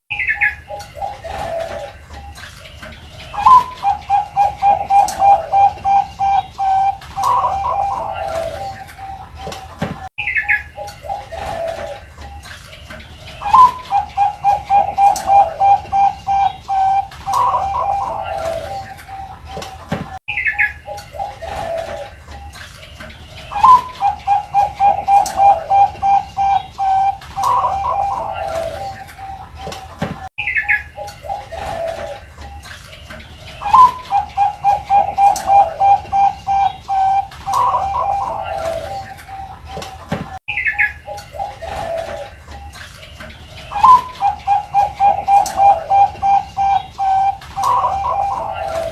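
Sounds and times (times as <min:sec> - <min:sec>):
dove cooing: 0:00.1 - 0:48.9.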